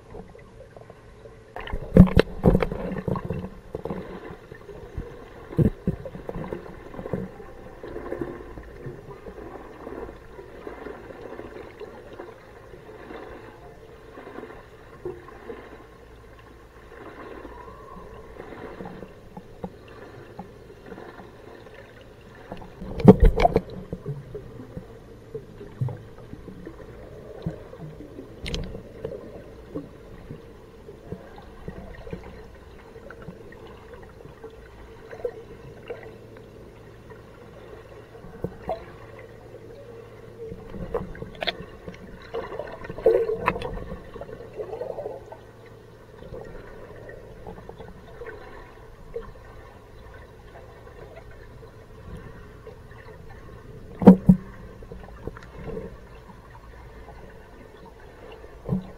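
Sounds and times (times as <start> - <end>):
faint steady hum: 0.0 - 58.9
muffled underwater gurgling: 1.5 - 16.0, 16.7 - 58.9.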